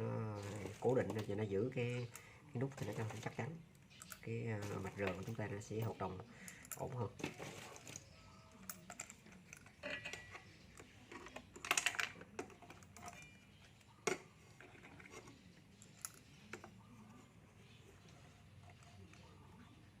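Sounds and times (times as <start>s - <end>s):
small parts clicking and rattling: 0.4s - 16.8s.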